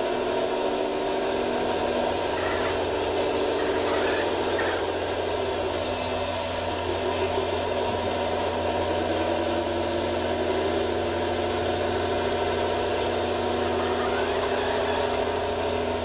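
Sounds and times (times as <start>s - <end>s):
model machine mechanical hum: 0.0s - 16.0s.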